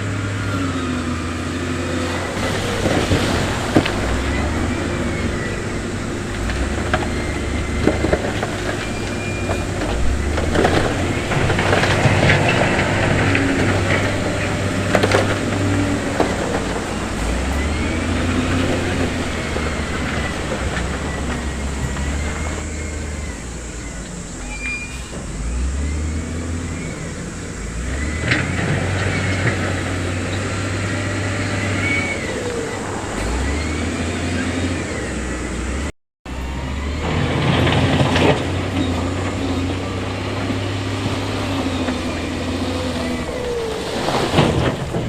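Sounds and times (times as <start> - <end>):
diesel construction machinery running: 0.0 - 45.0.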